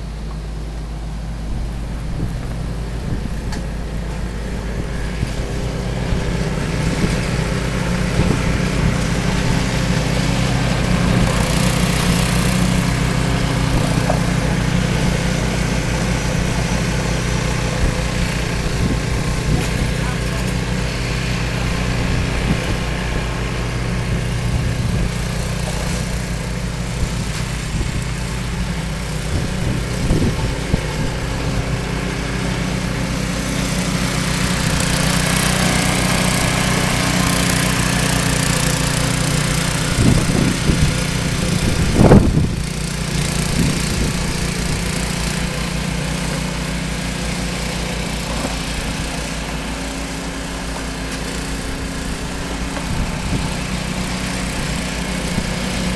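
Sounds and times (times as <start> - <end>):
snowblower engine running: 0.0 - 55.9.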